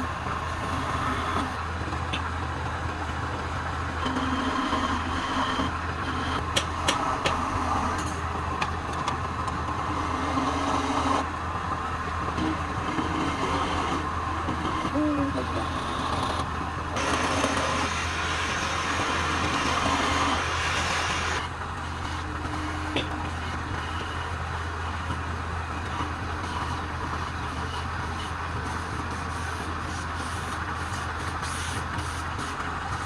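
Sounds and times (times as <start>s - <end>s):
wood lathe humming: 0.0s - 33.0s.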